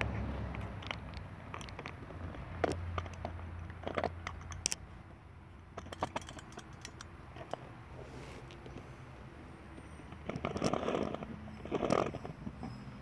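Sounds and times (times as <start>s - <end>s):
clicks and rattles of handled parts: 0.0s - 7.7s, 9.7s - 12.7s.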